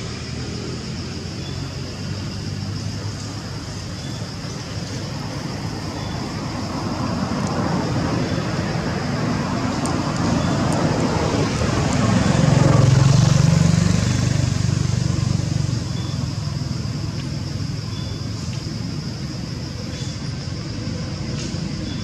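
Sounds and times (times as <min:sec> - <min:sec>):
outdoor background noise: 0:00.0 - 0:22.0
passing vehicle engine rumble: 0:00.0 - 0:22.0.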